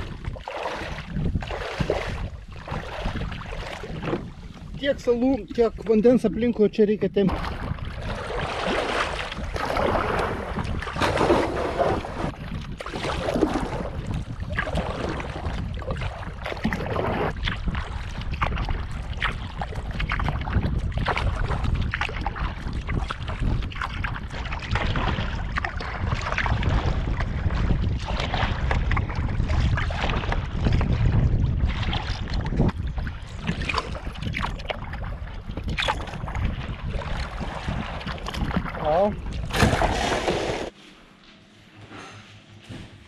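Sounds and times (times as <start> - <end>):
wind on microphone: 0.0 - 6.0, 7.2 - 40.7
water lapping and splashing: 0.0 - 40.8.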